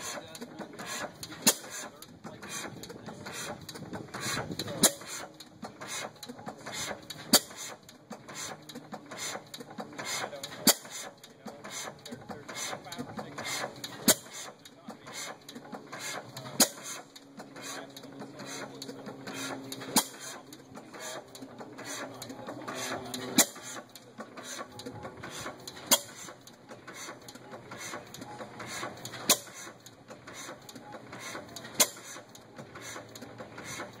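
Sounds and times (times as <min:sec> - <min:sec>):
engine clicking while coasting: 0:00.0 - 0:34.0.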